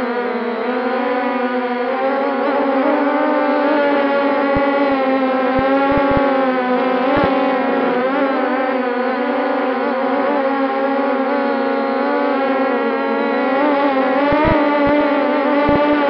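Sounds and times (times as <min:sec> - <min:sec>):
quadcopter propellers whining: 0:00.0 - 0:16.0.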